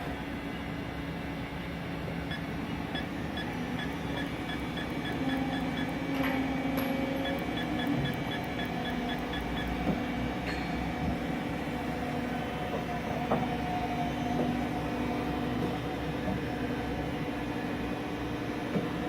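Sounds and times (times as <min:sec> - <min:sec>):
machining center humming: 0:00.0 - 0:19.0.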